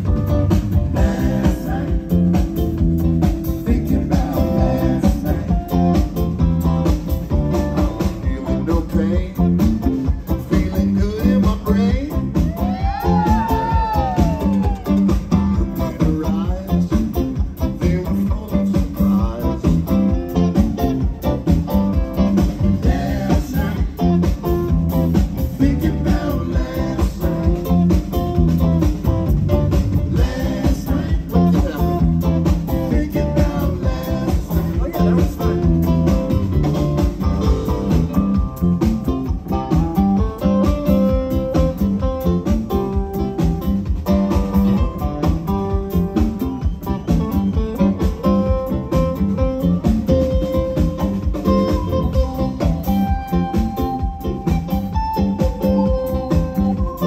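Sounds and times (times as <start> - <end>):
live band music: 0.0 - 57.0.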